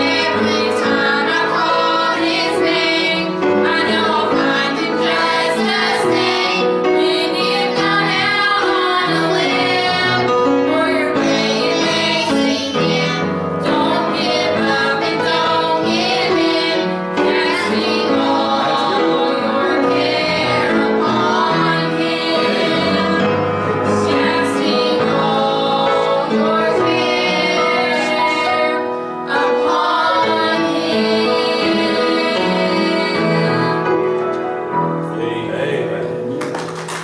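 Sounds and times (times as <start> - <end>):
girls singing gospel song: 0.0 - 33.9
instrumental accompaniment: 0.0 - 37.0.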